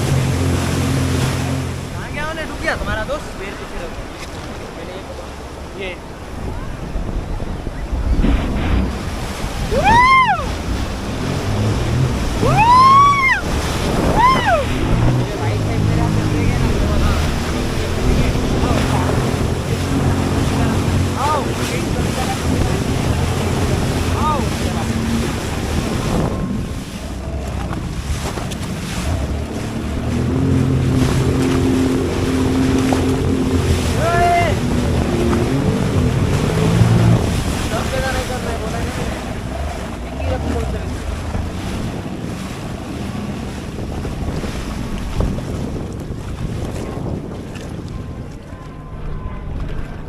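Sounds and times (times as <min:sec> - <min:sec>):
low motor rumble: 0:00.0 - 0:50.0
surf: 0:00.0 - 0:50.0
water wash: 0:00.0 - 0:50.0
watercraft engine running: 0:00.0 - 0:50.0
wind: 0:00.0 - 0:50.0.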